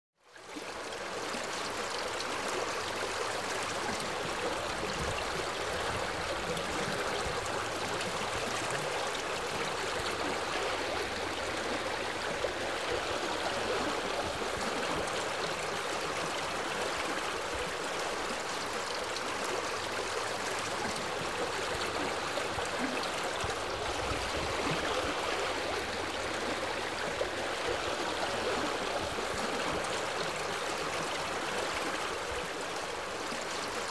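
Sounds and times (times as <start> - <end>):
running stream water: 0.2 - 33.9.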